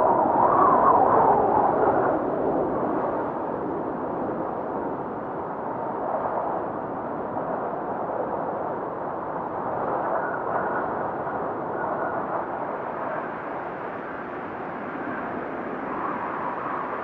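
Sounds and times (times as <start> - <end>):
steady wind-like rushing: 0.0 - 17.0.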